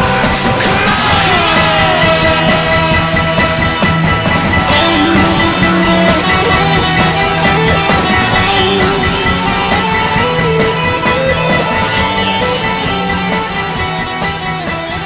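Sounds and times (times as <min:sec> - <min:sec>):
distorted electric guitar: 0:00.0 - 0:15.0
drums keeping a steady beat: 0:00.0 - 0:15.0.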